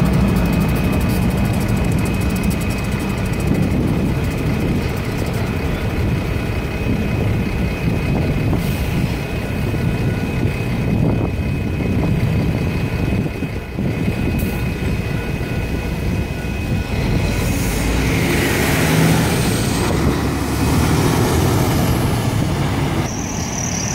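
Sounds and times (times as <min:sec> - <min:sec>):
railroad crossing bells ringing: 0:00.0 - 0:20.8
diesel locomotives rumbling: 0:00.0 - 0:23.9
road traffic: 0:00.0 - 0:23.9.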